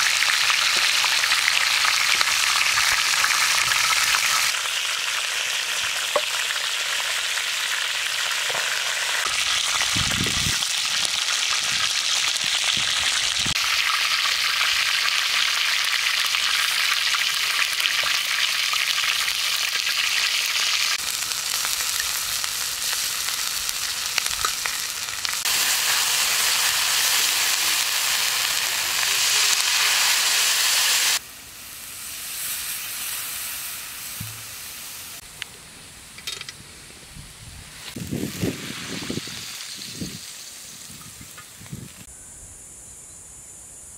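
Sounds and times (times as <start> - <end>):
food sizzling in hot oil: 0.0 - 35.2, 37.7 - 42.1.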